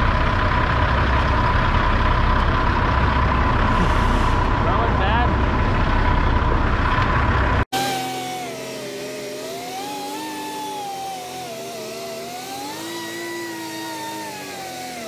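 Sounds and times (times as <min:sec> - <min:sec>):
military truck engine whine: 0:00.0 - 0:15.0.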